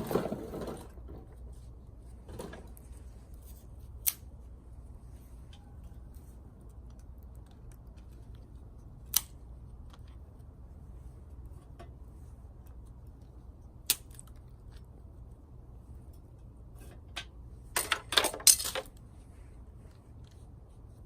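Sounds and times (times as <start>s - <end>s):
steady low rumble: 0.8s - 17.8s.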